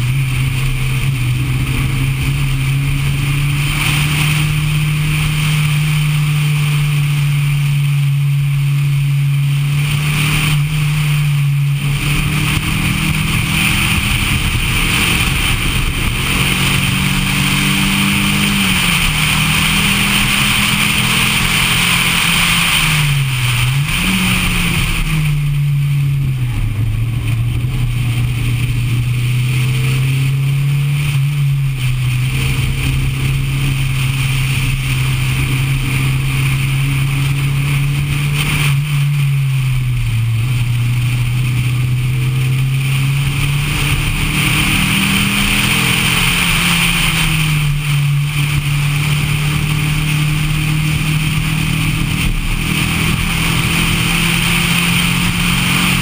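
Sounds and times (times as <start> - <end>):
car engine accelerating: 0.0 - 56.0
wind and tyre hiss: 0.0 - 56.0.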